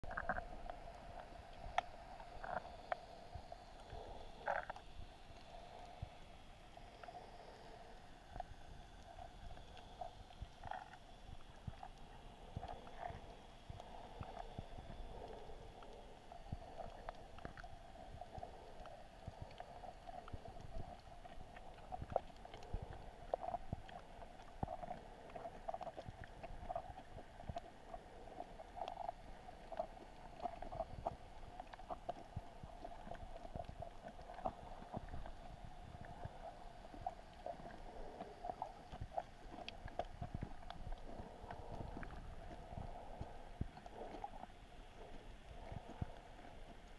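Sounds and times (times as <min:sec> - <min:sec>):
small underwater clicks and knocks: 0:00.0 - 0:07.2, 0:08.0 - 0:46.9
underwater hum and rumble: 0:00.0 - 0:46.9.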